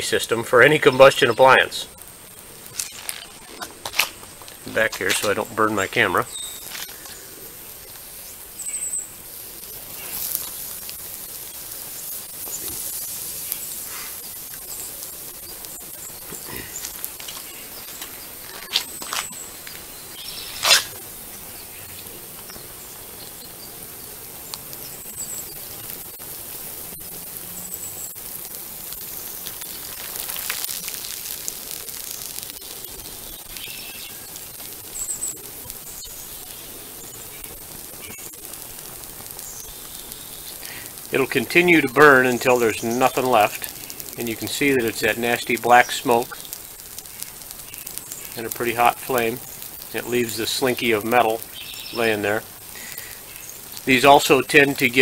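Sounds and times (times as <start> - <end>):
plastic burning crackle and hiss: 0.0 - 55.0
sharp pops of burning plastic: 2.0 - 5.6, 6.2 - 21.4, 24.0 - 55.0.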